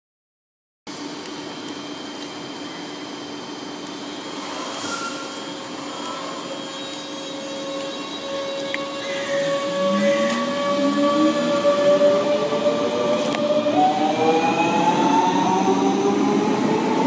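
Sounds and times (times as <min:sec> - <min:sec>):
electric train humming: 0:01.0 - 0:17.0.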